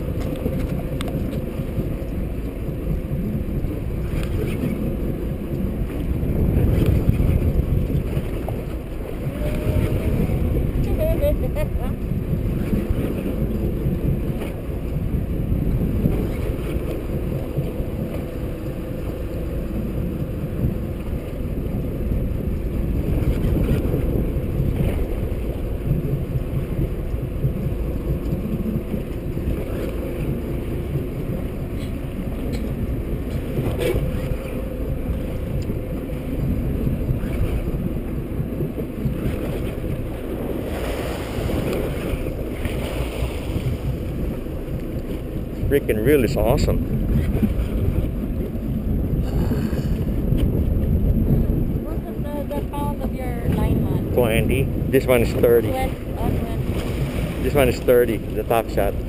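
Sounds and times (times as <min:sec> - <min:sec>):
boat motor running: 0:00.0 - 0:59.0
water rushing along hull: 0:00.0 - 0:59.0
wind buffeting microphone: 0:00.0 - 0:59.0.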